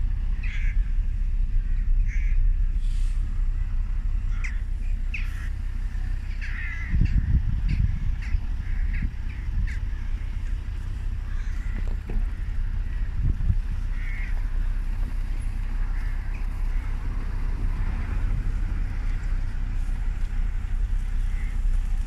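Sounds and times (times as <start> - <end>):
wind rumble on microphone: 0.0 - 22.0
crows cawing: 0.4 - 2.6, 4.2 - 17.6, 18.8 - 22.0.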